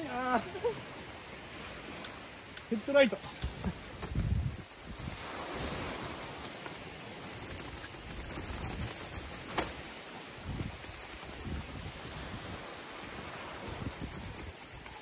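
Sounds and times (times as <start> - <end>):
surf: 0.0 - 15.0
wind: 0.0 - 15.0.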